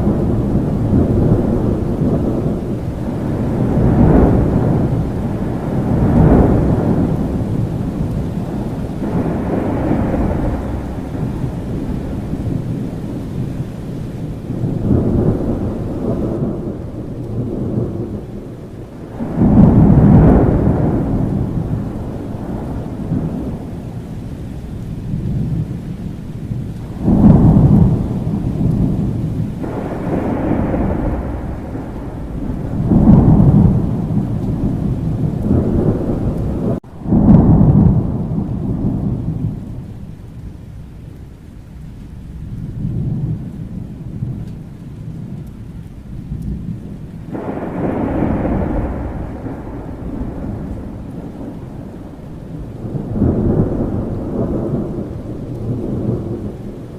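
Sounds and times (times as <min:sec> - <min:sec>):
loud thunder claps: 0:00.0 - 0:40.6, 0:42.2 - 0:56.9
rolling thunder: 0:00.0 - 0:56.9
steady rain: 0:00.0 - 0:56.9.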